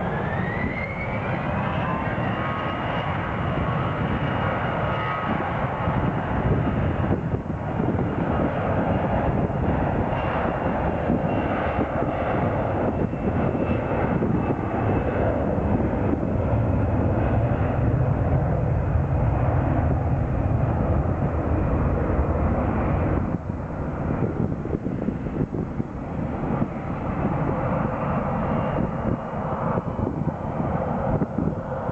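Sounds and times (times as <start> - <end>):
airliner engines rumbling: 0.0 - 31.9
faint high engine whine: 0.0 - 31.9.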